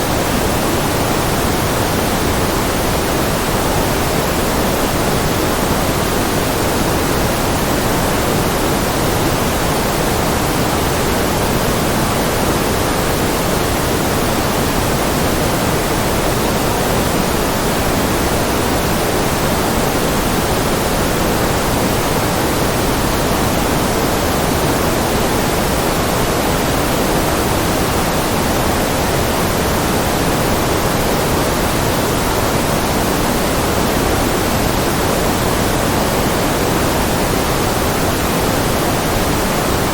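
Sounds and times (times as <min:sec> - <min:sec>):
synthetic white noise hiss: 0:00.0 - 0:39.9.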